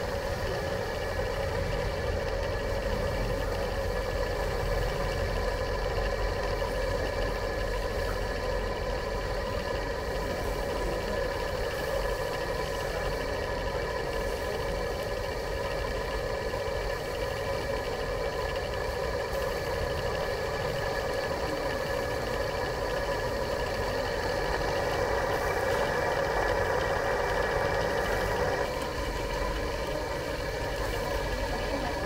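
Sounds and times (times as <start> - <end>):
motor hum with low rumble: 0.0 - 32.0.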